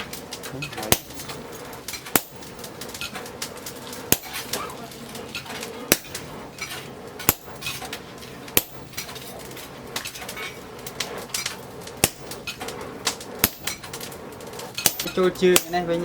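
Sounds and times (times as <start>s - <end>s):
hammer striking steel: 0.0s - 16.0s.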